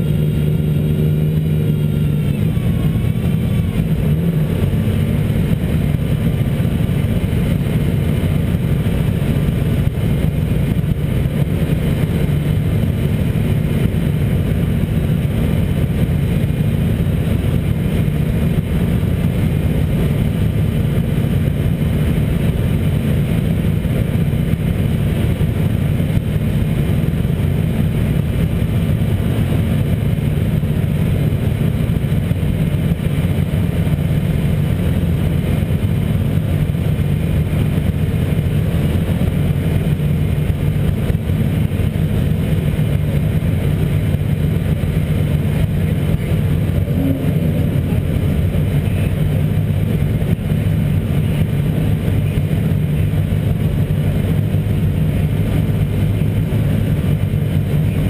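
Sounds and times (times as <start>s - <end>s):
race car engine idling: 0.0s - 58.0s.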